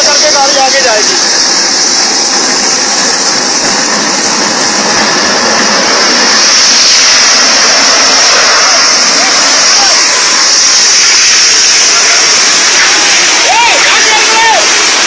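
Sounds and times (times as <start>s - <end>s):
loud even rushing noise: 0.0s - 15.0s.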